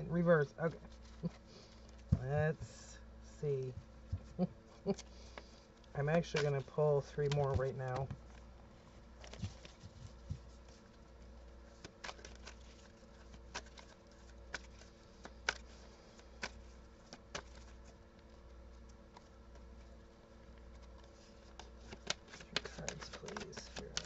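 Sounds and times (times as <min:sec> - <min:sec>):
low steady hum: 0:00.0 - 0:24.0
cards being shuffled: 0:04.1 - 0:08.5, 0:09.1 - 0:24.0.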